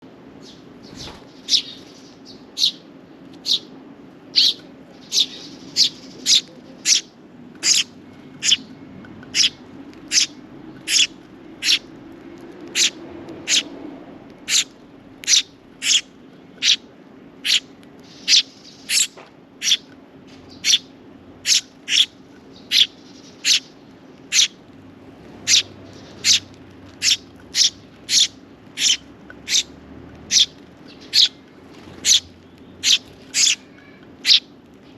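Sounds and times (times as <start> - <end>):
sparrow chirping: 0.4 - 3.7, 4.3 - 13.7, 14.4 - 24.6, 25.4 - 34.9.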